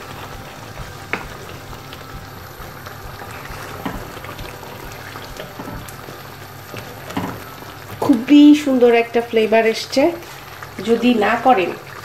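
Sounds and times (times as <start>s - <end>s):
gravy sizzling in frying pan: 0.0s - 12.0s.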